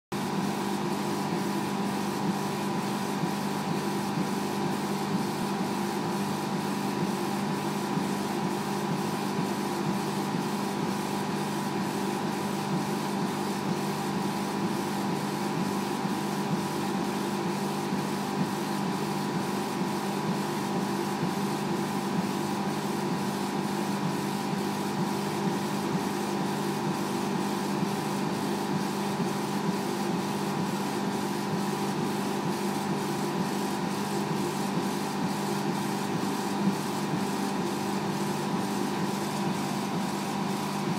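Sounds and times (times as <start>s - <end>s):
laser cutter fan hum: 0.2s - 40.9s.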